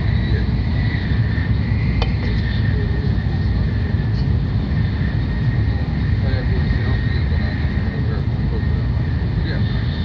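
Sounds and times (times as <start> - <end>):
faint high whine: 0.0 - 10.0
train cabin low rumble: 0.0 - 10.0.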